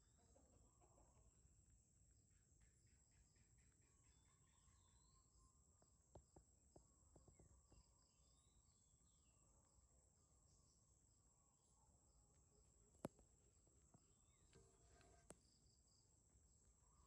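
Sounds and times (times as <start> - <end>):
distant bird chirps: 0.0 - 17.0.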